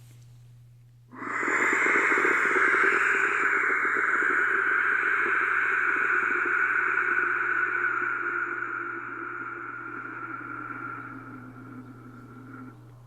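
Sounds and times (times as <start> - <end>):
breath blown into microphone: 1.1 - 12.9.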